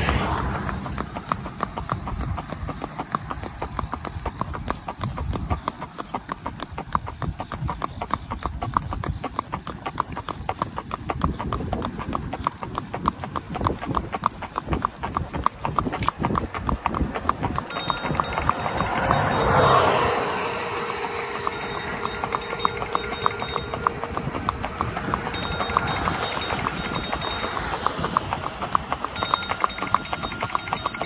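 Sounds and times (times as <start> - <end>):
horse hoofbeats: 0.0 - 31.0.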